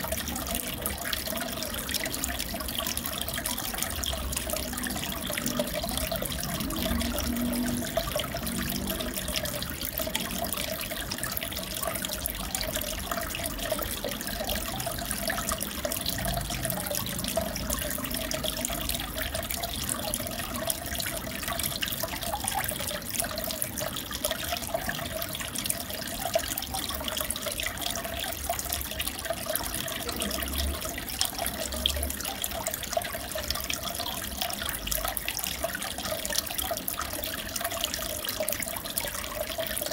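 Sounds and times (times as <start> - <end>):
aquarium water trickling and bubbling: 0.0 - 39.9
crackling splashes: 0.0 - 39.9.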